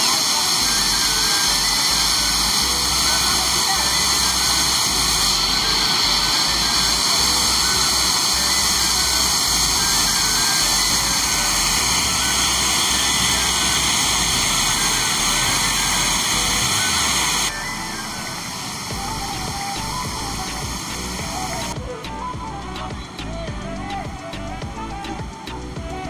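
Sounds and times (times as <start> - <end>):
waterfall rushing: 0.0 - 23.2.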